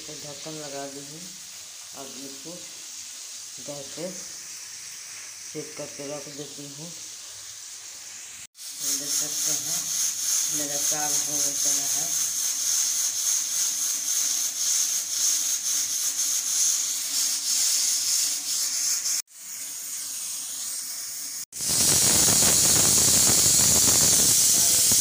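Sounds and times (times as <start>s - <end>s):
pressure cooker hissing: 0.0s - 25.0s
rush of venting steam: 0.0s - 25.0s.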